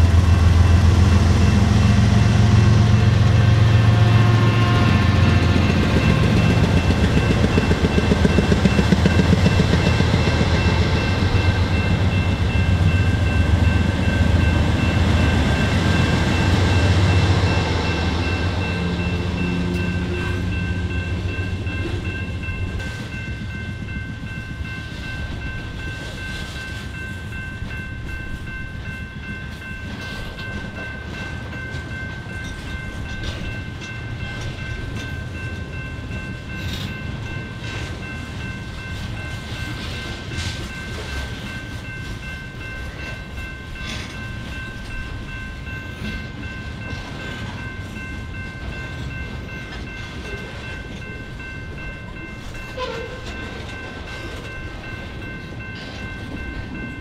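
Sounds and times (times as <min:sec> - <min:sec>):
train cars rumbling past: 0:00.0 - 0:57.0
high-pitched ringing: 0:01.4 - 0:57.0.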